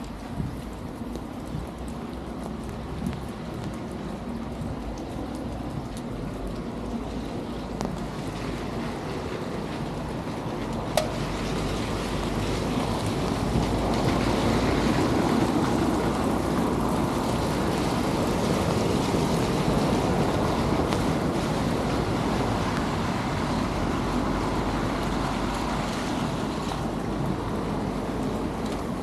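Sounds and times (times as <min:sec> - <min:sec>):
steady rain: 0:00.0 - 0:29.0
tyres on wet paving: 0:00.0 - 0:29.0.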